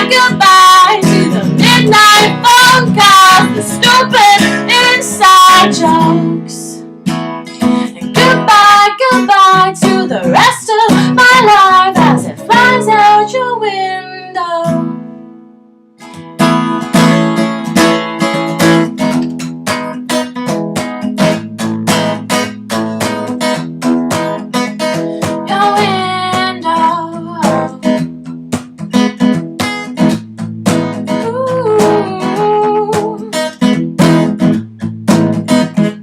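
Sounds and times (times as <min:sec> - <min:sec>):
acoustic guitar strumming: 0:00.0 - 0:36.0.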